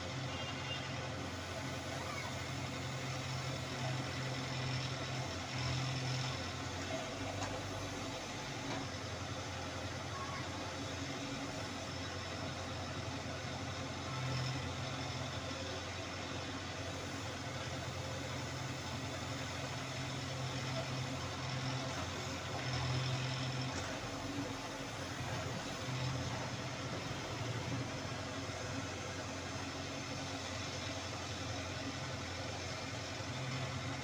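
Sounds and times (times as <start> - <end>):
backhoe diesel engine running: 0.0 - 34.0.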